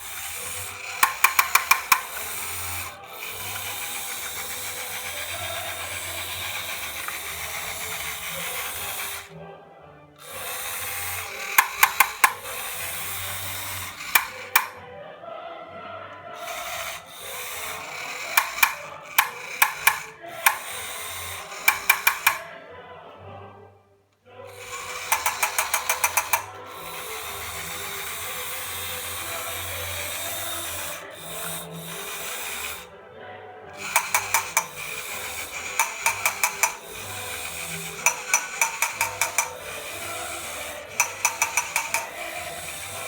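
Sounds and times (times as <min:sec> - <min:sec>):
rapid clicking: 0:00.0 - 0:09.3, 0:10.2 - 0:14.8, 0:16.4 - 0:22.5, 0:24.5 - 0:32.9, 0:33.8 - 0:43.0
toy motor whirring: 0:00.0 - 0:09.5, 0:10.2 - 0:14.9, 0:16.1 - 0:22.6, 0:24.3 - 0:33.0, 0:33.7 - 0:43.0.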